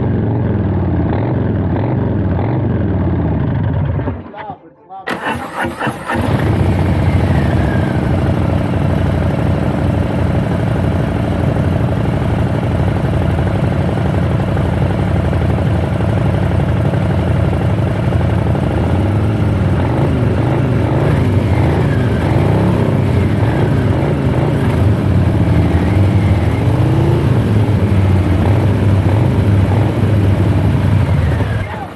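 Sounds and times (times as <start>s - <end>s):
motorcycle engine idling and revving: 0.0s - 4.2s, 5.1s - 31.9s.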